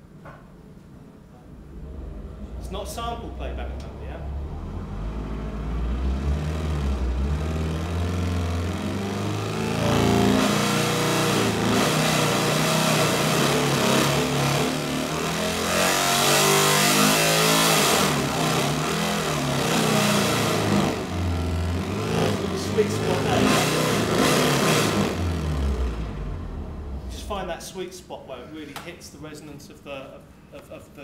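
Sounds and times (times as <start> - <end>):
synthesized engine revving: 1.5 - 27.8.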